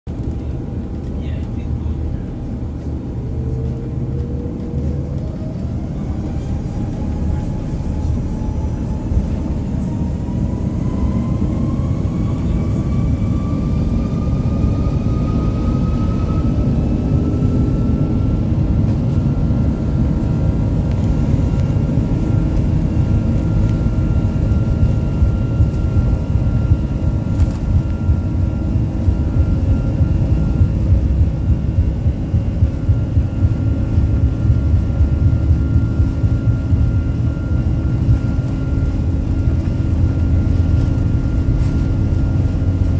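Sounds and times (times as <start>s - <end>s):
heavy low rumble: 0.1s - 42.9s
jet engines whining: 0.1s - 42.9s.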